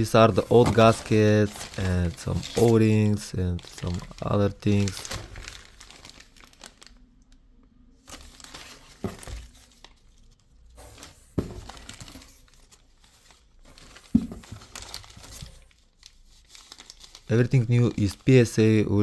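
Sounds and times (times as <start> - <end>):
packaging crinkling and rustling: 0.0 - 7.1, 8.0 - 18.4.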